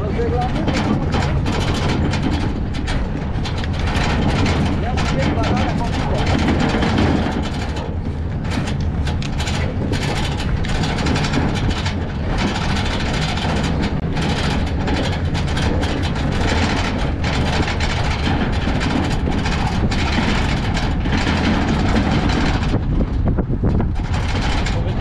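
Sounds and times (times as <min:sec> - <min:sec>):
cart wheels rumbling on pavement: 0:00.0 - 0:25.0
wooden body rattling and knocking: 0:00.0 - 0:25.0.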